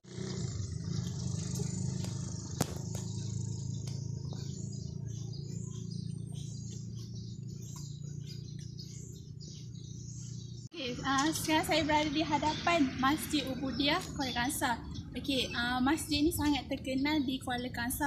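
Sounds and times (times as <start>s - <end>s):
steady low hum: 0.0s - 16.2s
birds chirping: 0.0s - 18.0s.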